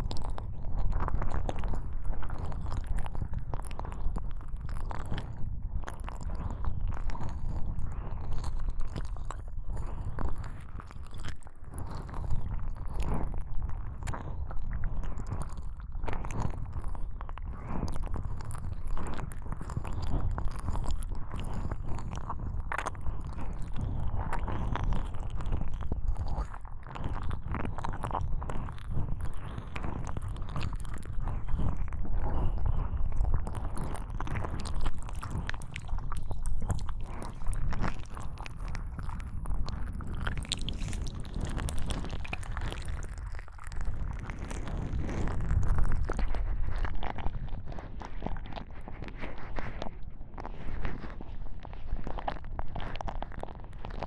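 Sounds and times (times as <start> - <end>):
crackling and scratching in ear: 0.0 - 54.0.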